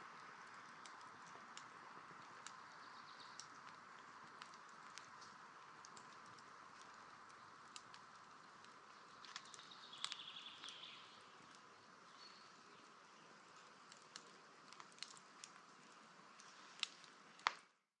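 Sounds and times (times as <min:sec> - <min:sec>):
campfire embers crackling: 0:00.0 - 0:17.9
soft fire hiss: 0:00.0 - 0:17.9.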